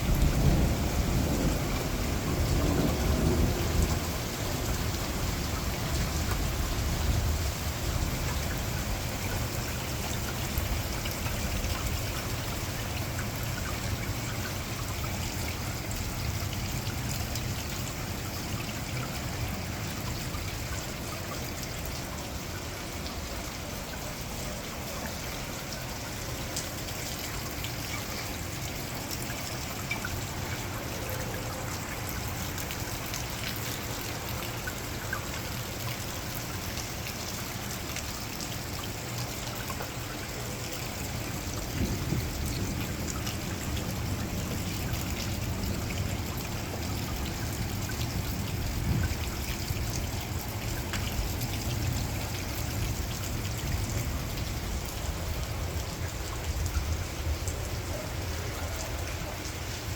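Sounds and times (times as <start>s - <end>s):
steady rain: 0.0s - 59.9s
water trickling: 0.0s - 59.9s.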